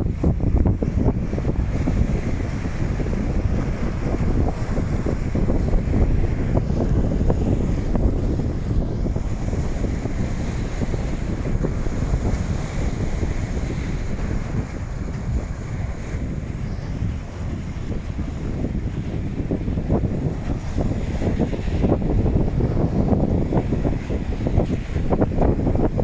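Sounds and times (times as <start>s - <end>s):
surf on the beach: 0.0s - 26.0s
wind buffeting microphone: 0.0s - 26.0s.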